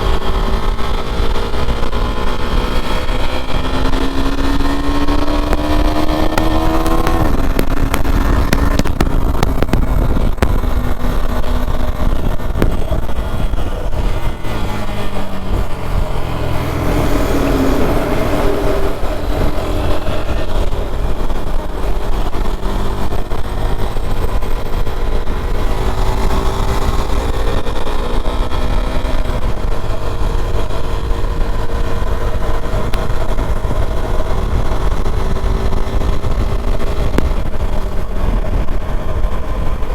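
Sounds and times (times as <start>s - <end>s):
motorcycle engine accelerating: 0.0s - 39.9s
wind rumble: 0.0s - 39.9s.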